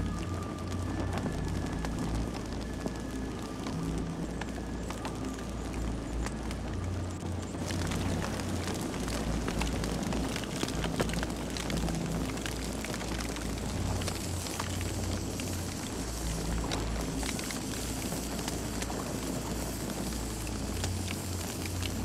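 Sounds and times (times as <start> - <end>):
campfire crackling: 0.0 - 22.0
low rumble of flames: 0.0 - 22.0.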